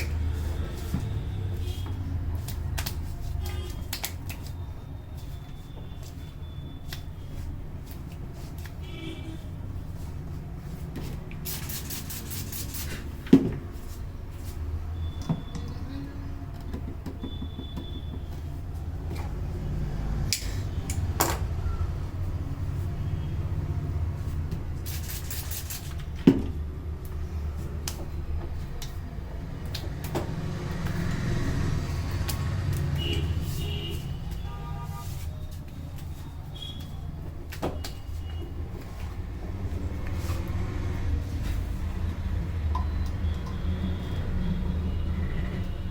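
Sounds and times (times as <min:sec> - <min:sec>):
low traffic rumble: 0:00.0 - 0:45.9.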